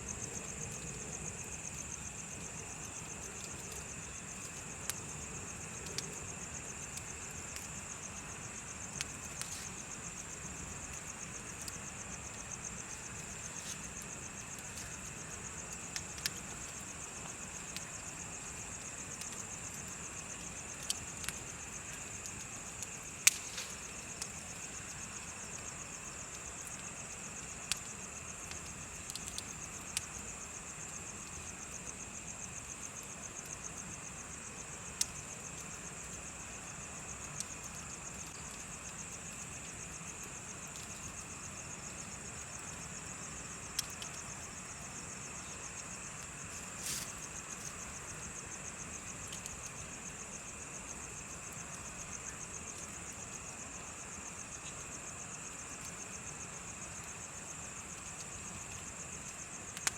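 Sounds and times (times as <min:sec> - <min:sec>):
bonfire crackling: 0:00.0 - 0:59.9
crickets chirping: 0:00.0 - 0:59.9
lower insect song: 0:00.0 - 0:59.9.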